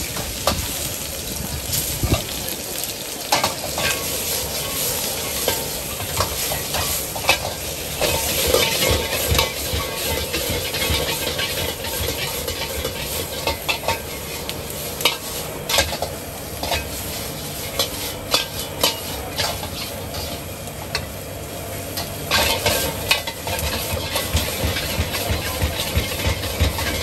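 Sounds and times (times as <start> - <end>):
food sizzling in a wok: 0.0 - 27.0
metal ladle scraping a wok: 3.3 - 21.1, 22.0 - 27.0.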